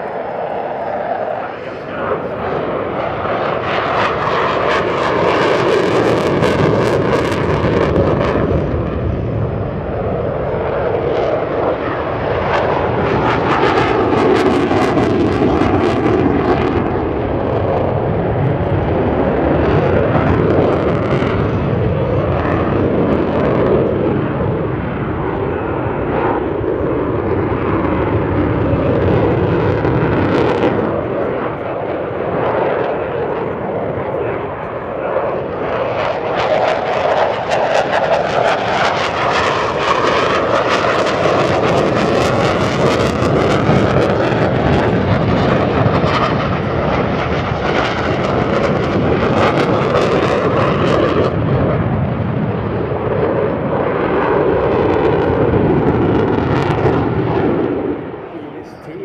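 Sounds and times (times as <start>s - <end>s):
crackling jet roar: 0.0s - 59.0s
fighter jet noise: 0.0s - 59.0s.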